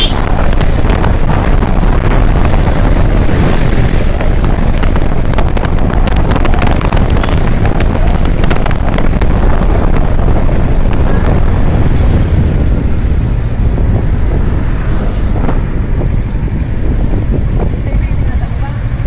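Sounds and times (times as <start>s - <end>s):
motorcycle engine: 0.0s - 19.0s
road noise: 0.0s - 19.0s
wind buffeting microphone: 0.0s - 19.0s.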